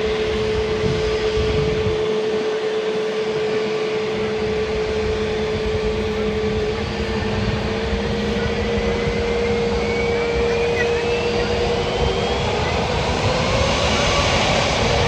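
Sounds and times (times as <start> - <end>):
faint high whine: 0.0 - 15.0
jet engines rushing and droning: 0.0 - 15.0.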